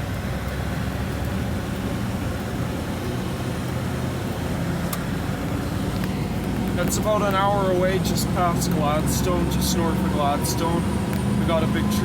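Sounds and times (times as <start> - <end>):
engine and road noise inside vehicle: 0.0 - 12.0.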